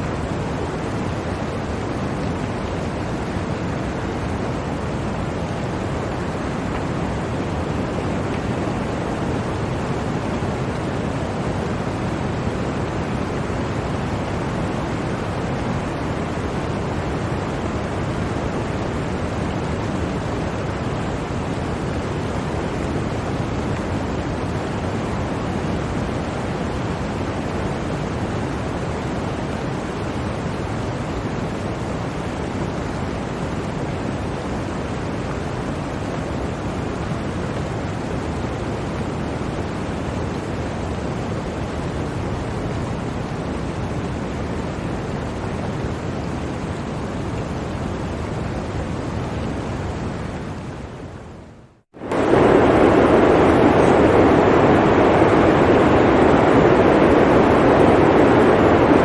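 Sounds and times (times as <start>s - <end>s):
blizzard wind roaring: 0.0s - 59.0s.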